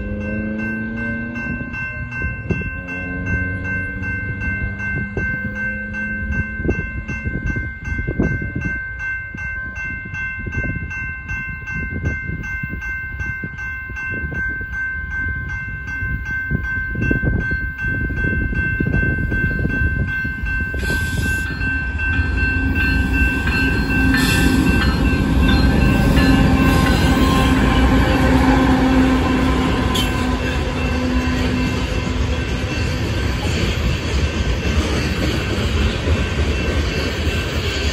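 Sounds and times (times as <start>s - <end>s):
crossing warning bell ringing: 0.0s - 37.9s
diesel locomotive engine drone: 0.0s - 37.9s
train wheels rumbling: 0.0s - 37.9s.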